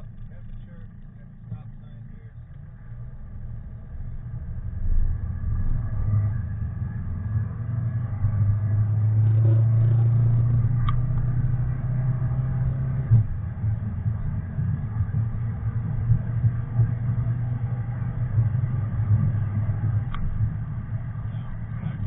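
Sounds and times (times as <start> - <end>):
diesel engine accelerating: 0.0 - 22.0.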